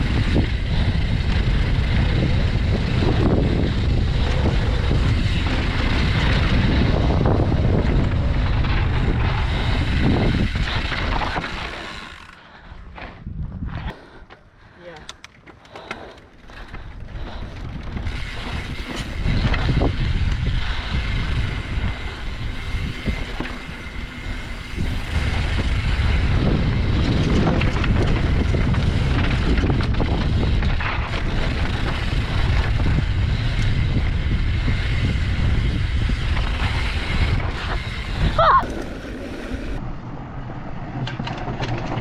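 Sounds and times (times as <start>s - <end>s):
wind buffeting microphone: 0.0s - 14.2s, 16.4s - 42.0s
mountain bike rattling: 0.0s - 42.0s
tyres rolling over dirt trail: 0.0s - 42.0s.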